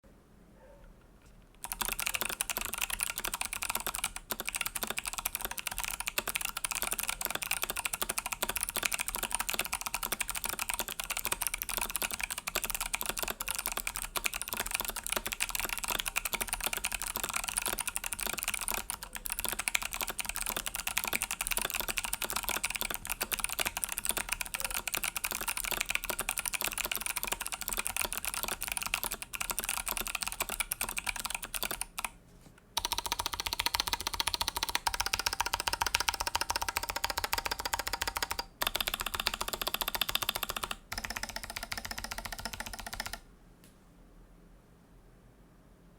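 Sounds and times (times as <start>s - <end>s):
clicky mechanical keyboard typing: 1.6s - 43.2s.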